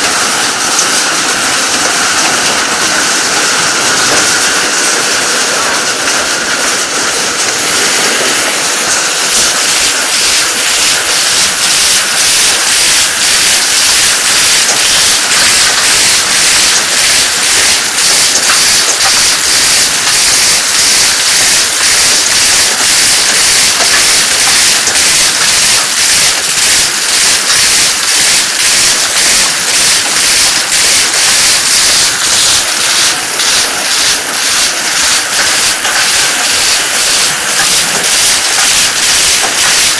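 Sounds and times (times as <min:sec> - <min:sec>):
rotary dryer hissing rush: 0:00.0 - 0:39.9.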